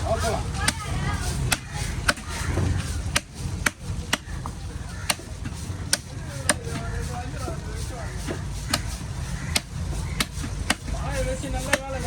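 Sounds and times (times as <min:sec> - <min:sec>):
knife chopping fish: 0:00.6 - 0:06.8, 0:08.2 - 0:11.9.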